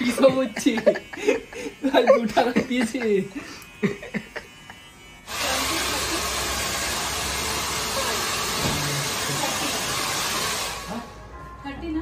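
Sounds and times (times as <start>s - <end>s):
hair dryer blowing: 0.0s - 11.2s.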